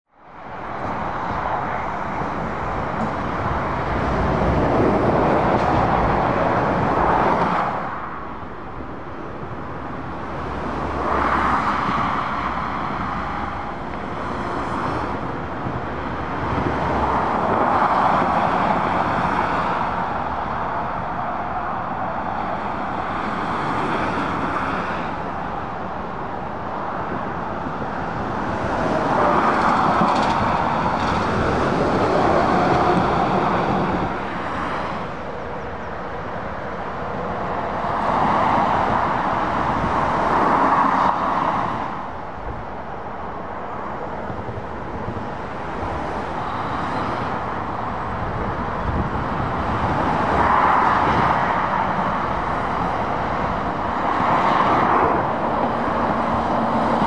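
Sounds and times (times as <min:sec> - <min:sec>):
cars and lorries passing: 0:00.1 - 0:57.0.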